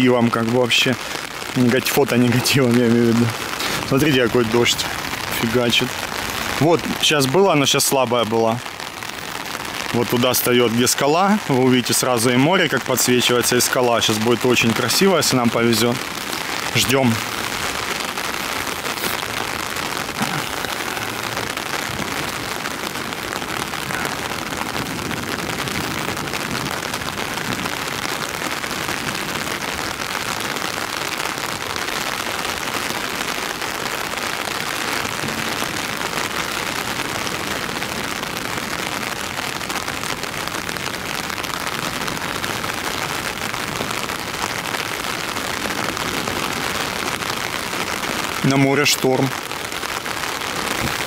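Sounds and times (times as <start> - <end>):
heavy rain pouring: 0.0 - 51.0.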